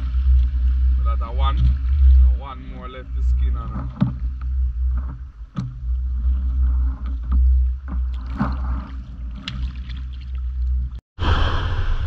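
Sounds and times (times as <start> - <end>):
water lapping: 0.0 - 11.0.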